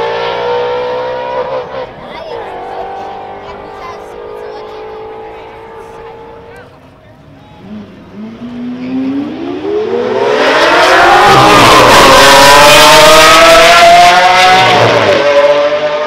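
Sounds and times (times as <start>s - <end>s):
sports car engines accelerating: 0.0s - 16.0s.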